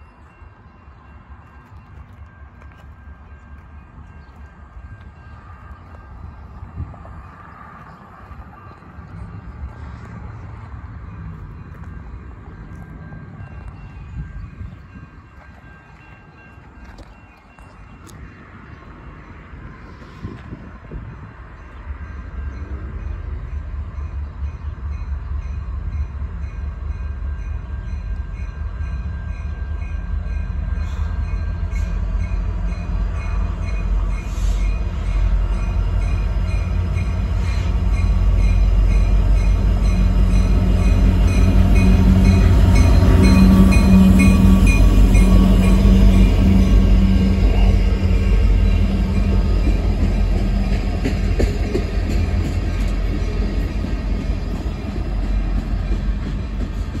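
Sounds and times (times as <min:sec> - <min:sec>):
crossing bell ringing: 0:00.0 - 0:20.0, 0:20.9 - 0:56.9
diesel locomotive engine and wheels: 0:00.0 - 0:57.0.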